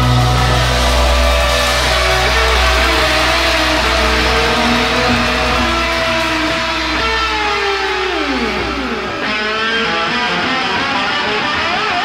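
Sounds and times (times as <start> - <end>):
live rock band: 0.0 - 12.0
wobbling guitar tones: 0.0 - 12.0.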